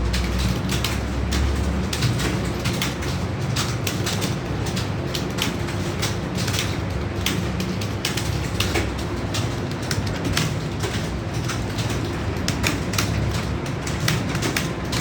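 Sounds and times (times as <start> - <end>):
computer keyboards clattering: 0.0 - 15.0.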